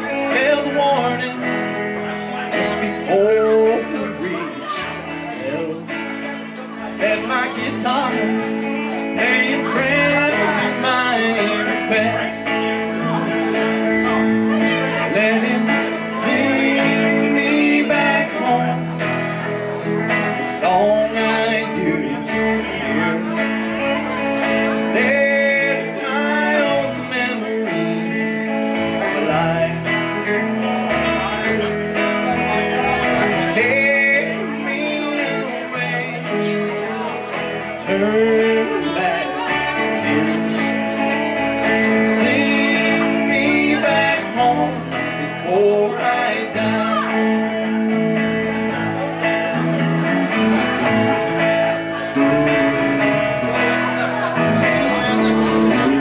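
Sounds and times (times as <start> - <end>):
acoustic guitar: 0.0 - 56.0
electric guitar: 0.0 - 56.0
man singing: 0.0 - 56.0
upright bass: 0.0 - 56.0.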